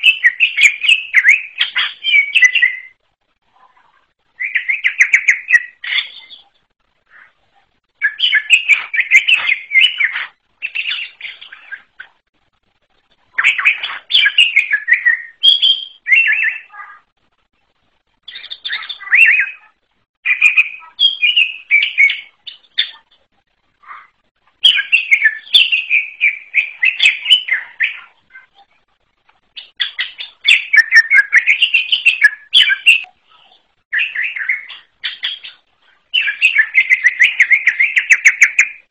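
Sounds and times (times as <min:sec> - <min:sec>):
bird chirping and warbling: 0:00.0 - 0:03.0, 0:03.6 - 0:12.3, 0:13.2 - 0:17.1, 0:18.2 - 0:38.9.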